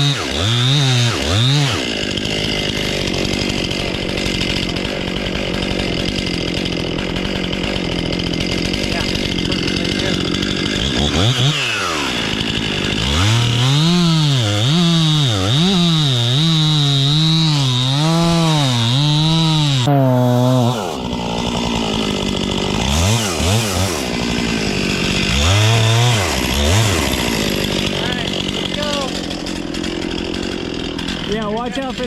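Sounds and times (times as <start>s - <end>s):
chainsaw cutting wood: 0.0s - 32.0s.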